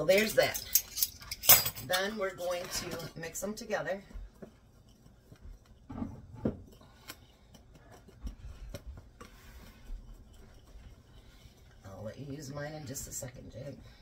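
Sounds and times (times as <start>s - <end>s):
whisk scraping in ceramic bowl: 1.9s - 13.9s.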